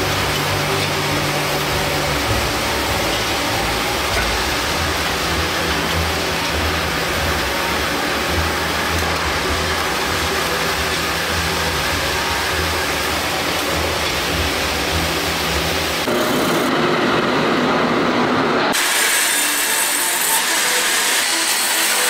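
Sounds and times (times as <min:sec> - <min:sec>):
bandsaw cutting wood: 0:00.0 - 0:16.7, 0:18.7 - 0:22.0
rolling mill machinery noise: 0:00.0 - 0:22.0.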